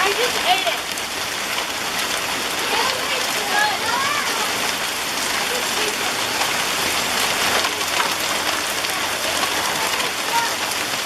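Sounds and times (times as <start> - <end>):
hailstones ticking: 0.0 - 11.0
heavy rain hissing: 0.0 - 11.0.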